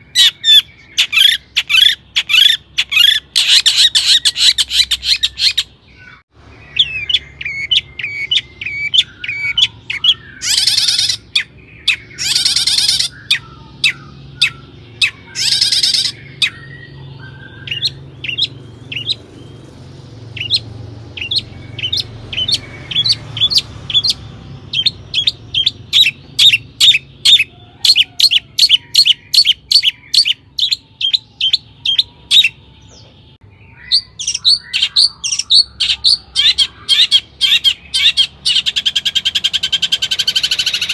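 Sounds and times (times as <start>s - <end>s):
bird singing high sharp notes: 0.0s - 40.9s
harsh rasping bird calls: 0.0s - 40.9s.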